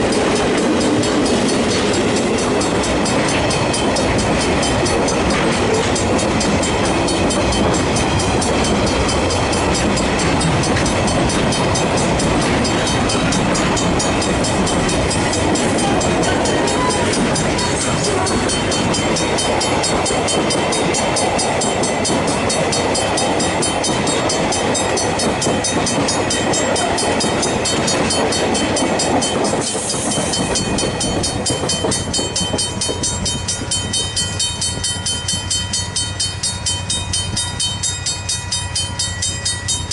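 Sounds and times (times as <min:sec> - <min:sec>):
crossing bells ringing: 0:00.0 - 0:39.9
train rumbling: 0:00.0 - 0:39.9.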